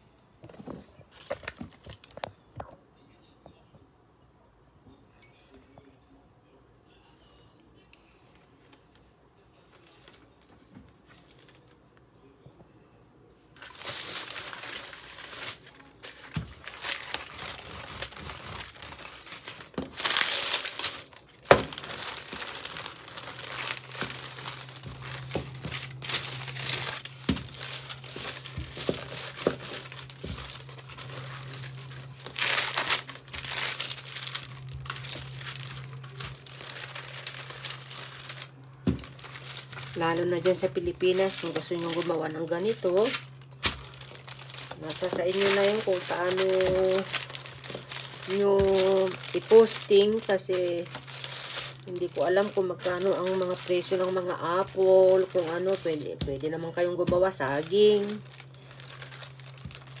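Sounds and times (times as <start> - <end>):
low steady hum: 0.0 - 60.0
baking paper crinkling: 1.0 - 2.3, 9.6 - 11.8, 13.6 - 60.0.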